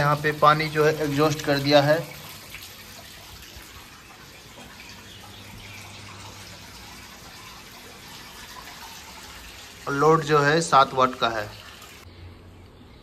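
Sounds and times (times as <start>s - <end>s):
water draining from washing machine: 0.0s - 12.1s.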